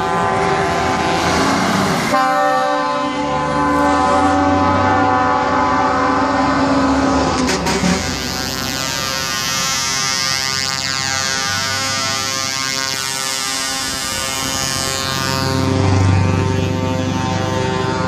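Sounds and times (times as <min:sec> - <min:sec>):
truck air horns blowing chords: 0:00.0 - 0:18.0.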